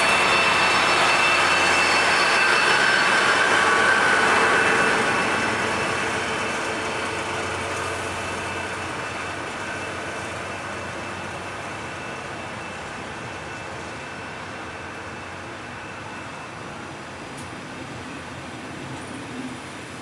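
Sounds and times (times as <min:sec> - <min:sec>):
locomotive engine whine: 0:00.0 - 0:20.0
train coaches rumbling by: 0:00.0 - 0:20.0.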